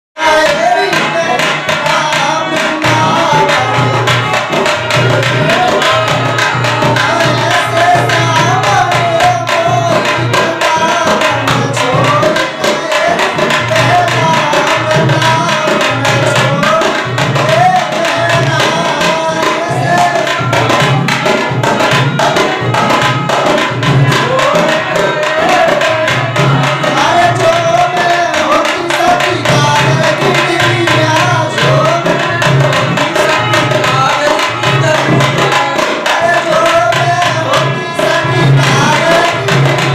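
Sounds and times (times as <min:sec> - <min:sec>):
person singing: 0:00.2 - 0:39.9
tabla rhythm: 0:00.2 - 0:39.9.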